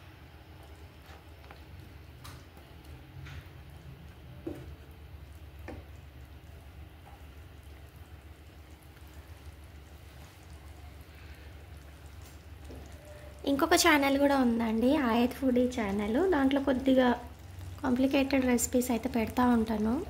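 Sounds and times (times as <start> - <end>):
food simmering in a pan: 0.0 - 20.0.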